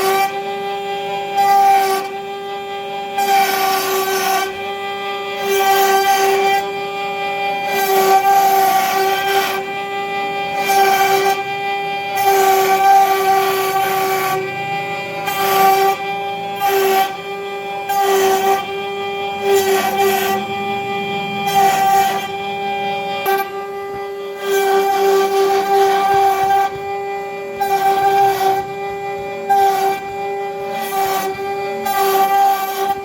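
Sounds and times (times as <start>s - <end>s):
bit rasping through wood: 0.0s - 33.0s
router spindle high whine: 0.0s - 33.0s.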